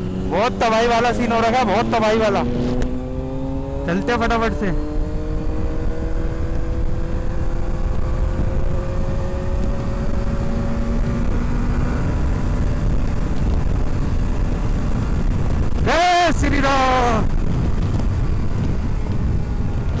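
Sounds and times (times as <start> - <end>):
motorcycle engine humming: 0.0 - 20.0
wind rushing: 0.0 - 20.0.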